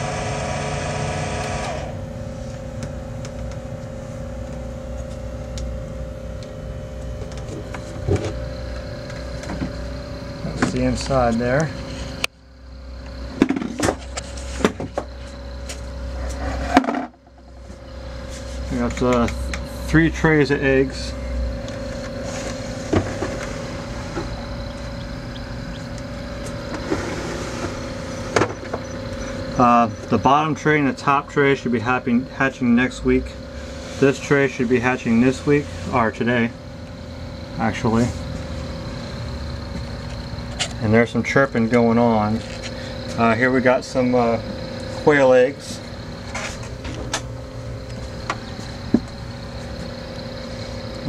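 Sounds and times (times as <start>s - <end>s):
loud droning machine hum: 0.0s - 51.0s
low incubator machinery hum: 0.0s - 51.0s.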